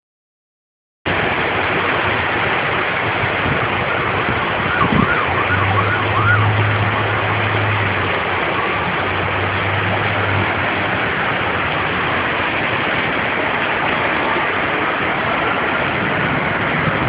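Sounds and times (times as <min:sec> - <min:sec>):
low engine hum: 0:01.1 - 0:17.0
storm water rushing: 0:01.1 - 0:17.0
emergency vehicle siren wailing: 0:03.1 - 0:17.0.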